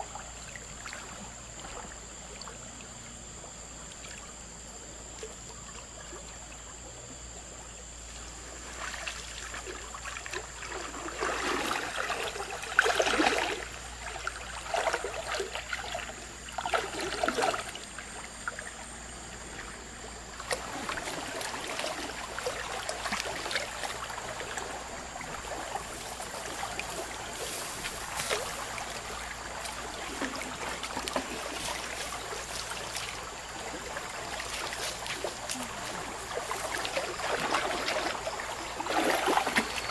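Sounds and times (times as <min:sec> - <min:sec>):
river water splashing: 0:00.0 - 0:06.5, 0:08.0 - 0:39.9.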